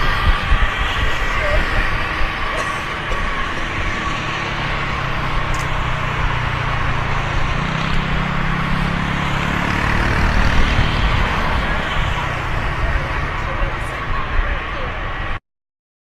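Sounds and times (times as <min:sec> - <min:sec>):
engine humming: 0:00.0 - 0:15.4
rushing noise: 0:00.0 - 0:15.4.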